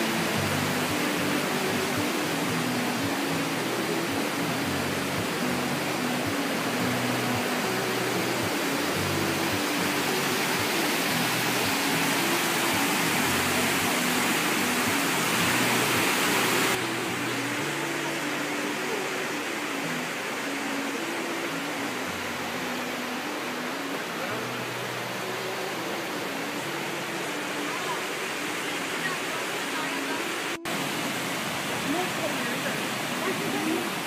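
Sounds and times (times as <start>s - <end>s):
river rushing over rocks: 0.0s - 34.0s
soft slow melody music: 0.0s - 34.0s.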